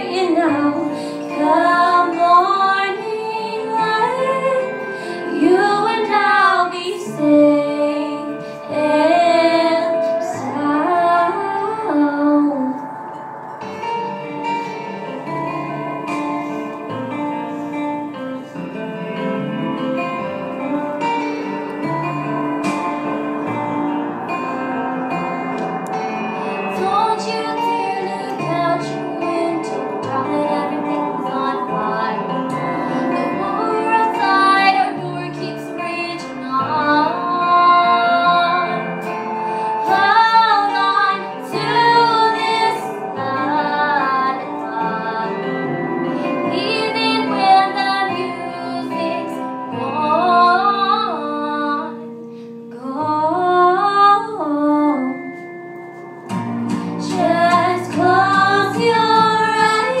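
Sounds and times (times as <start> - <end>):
women singing slow song: 0.0 - 17.8, 20.6 - 52.1, 56.7 - 60.0
instrumental accompaniment: 0.0 - 60.0.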